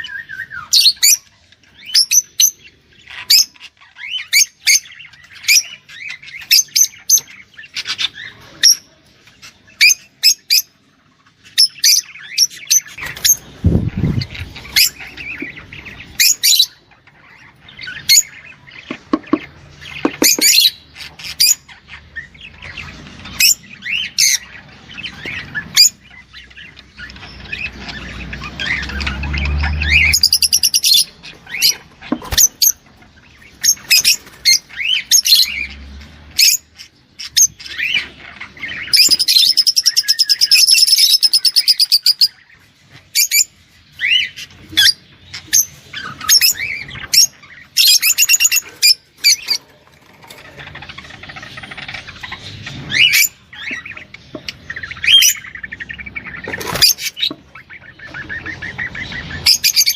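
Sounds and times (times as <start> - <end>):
cage bird chirping: 0.0 - 59.9.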